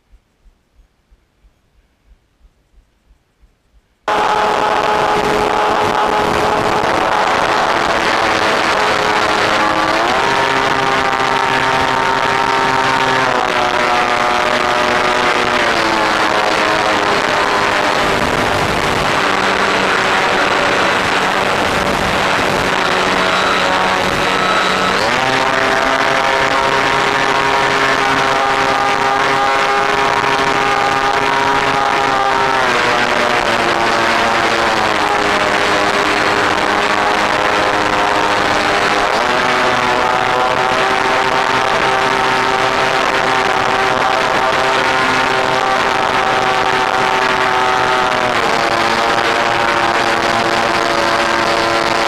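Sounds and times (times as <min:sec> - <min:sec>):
electric motor and propeller whining: 0:04.1 - 0:52.0.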